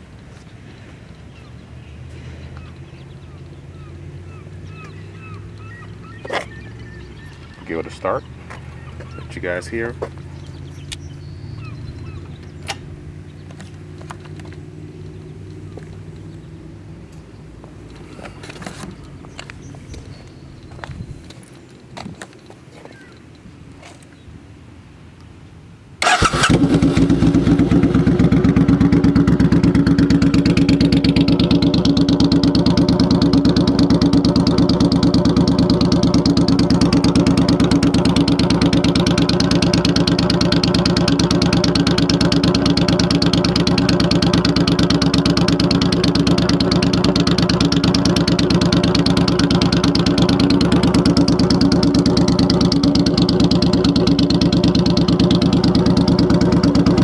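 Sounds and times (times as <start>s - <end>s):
motorcycle engine idling: 0.6s - 21.3s, 26.0s - 57.0s.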